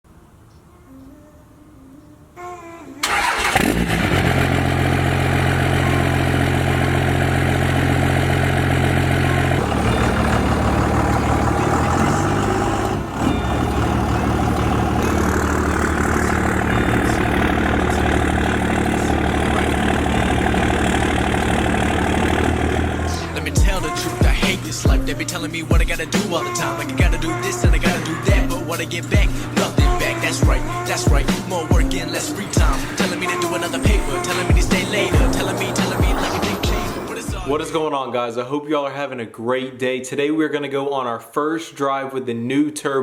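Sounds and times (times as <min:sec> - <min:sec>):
diesel engine starting and running: 0:03.0 - 0:37.9.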